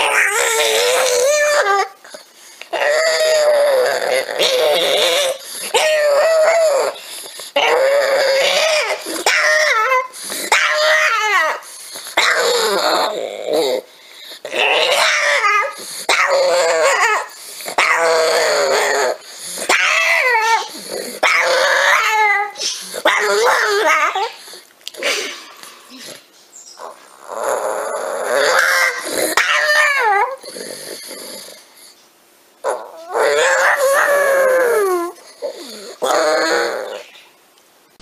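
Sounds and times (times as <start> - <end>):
dog whining: 0.0 - 32.0, 32.6 - 37.3.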